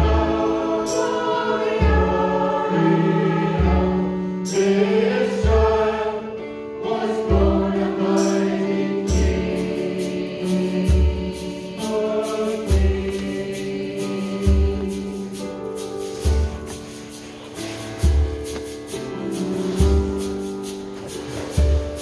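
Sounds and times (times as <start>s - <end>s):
choir singing a hymn: 0.0s - 22.0s
instrumental accompaniment: 0.0s - 22.0s.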